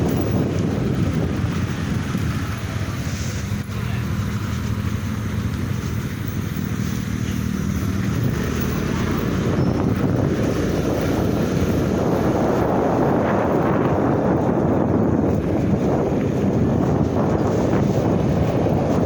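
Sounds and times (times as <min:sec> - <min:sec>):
rough rushing noise: 0:00.0 - 0:19.0
vehicle engine running: 0:00.0 - 0:19.0
wind buffeting microphone: 0:00.0 - 0:19.0.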